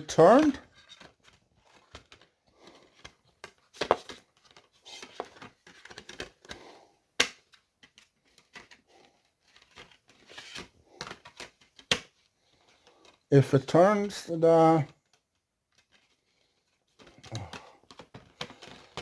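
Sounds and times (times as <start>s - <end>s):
plastic case clicking and rustling: 0.2s - 13.3s, 15.0s - 19.0s.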